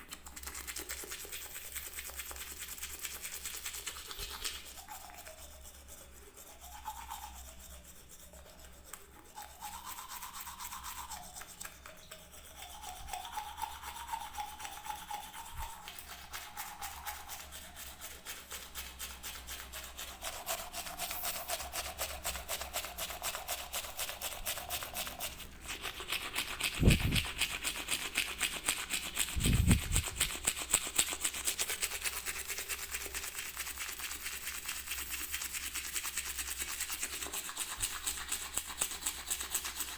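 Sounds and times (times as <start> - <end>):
toothbrush scrubbing: 0.0 - 39.9.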